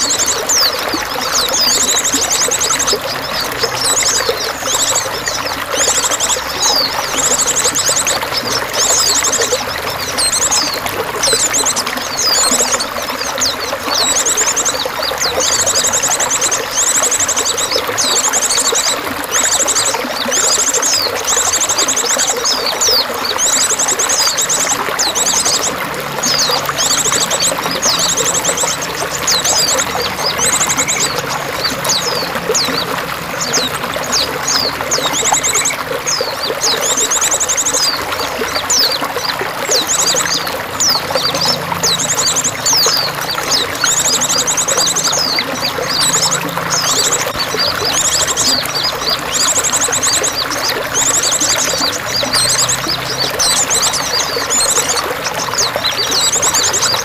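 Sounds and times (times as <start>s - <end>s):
running water splashing: 0.0s - 57.0s
songbirds chirping and trilling: 0.0s - 57.0s.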